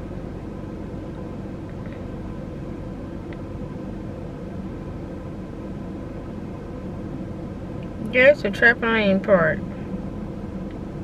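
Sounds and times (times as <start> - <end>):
car engine idling hum: 0.0 - 11.0.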